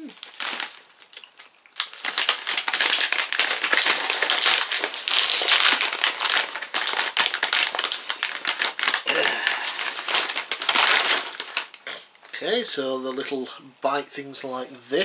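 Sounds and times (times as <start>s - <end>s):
plastic snack bag crinkling: 0.0s - 12.5s.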